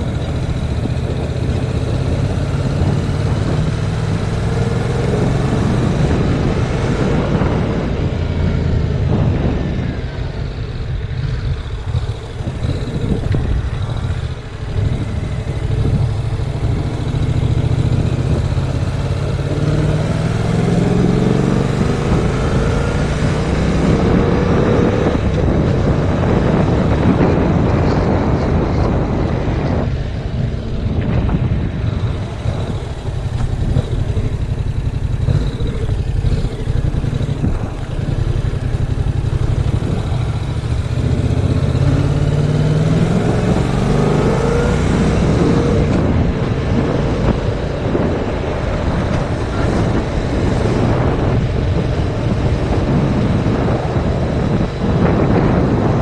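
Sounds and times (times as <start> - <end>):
motorcycle engine accelerating: 0.0 - 56.0
wind buffeting microphone: 0.0 - 56.0.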